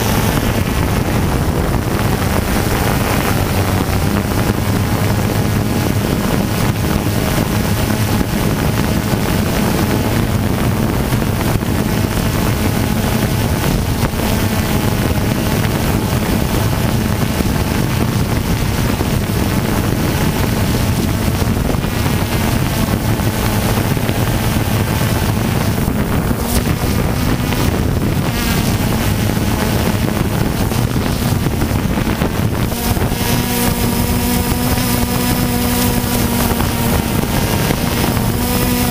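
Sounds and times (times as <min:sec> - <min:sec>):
drone propellers buzzing: 0:00.0 - 0:38.9
wind noise on microphone: 0:00.0 - 0:38.9.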